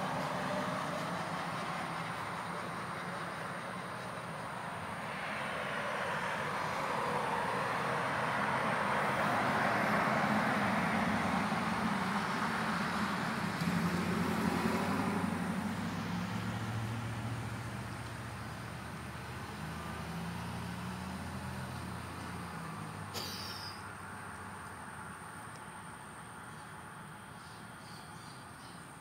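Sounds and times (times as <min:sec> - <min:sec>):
vehicle passing by: 0:00.0 - 0:25.2.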